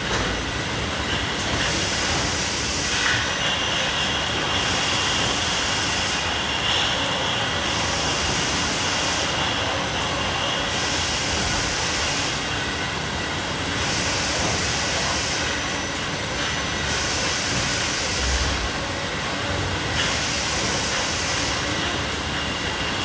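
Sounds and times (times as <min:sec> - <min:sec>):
bottling machinery running: 0:00.0 - 0:23.0.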